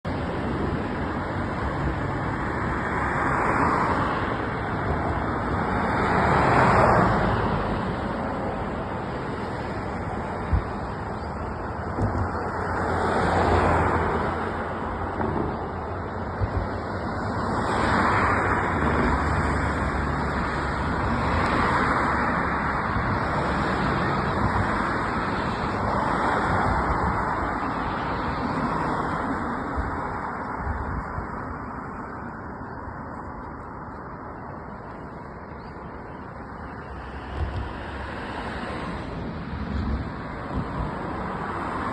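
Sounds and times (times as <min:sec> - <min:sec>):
vehicles swishing past: 0:00.1 - 0:41.9.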